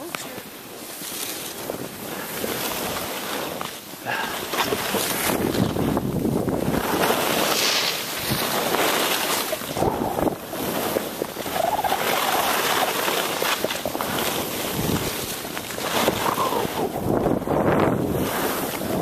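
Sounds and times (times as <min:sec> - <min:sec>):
skis hissing through snow: 0:00.2 - 0:19.0
wind rushing over microphone: 0:01.5 - 0:19.0.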